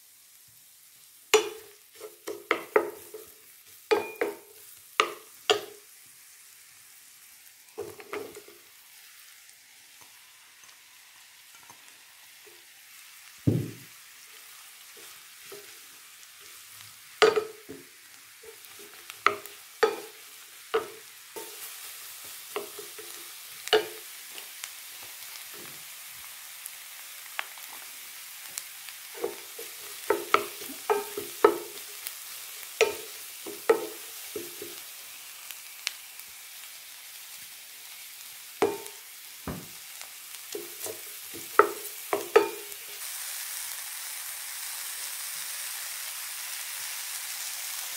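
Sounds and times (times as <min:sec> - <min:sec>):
mushrooms sizzling in pan: 0:00.0 - 0:47.9.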